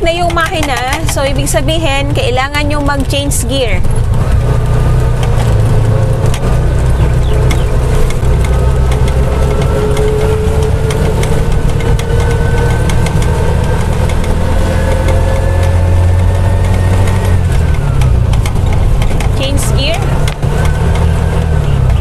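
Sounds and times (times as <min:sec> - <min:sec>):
cab clicks and rattles: 0:00.0 - 0:22.0
engine accelerating under load: 0:00.0 - 0:22.0.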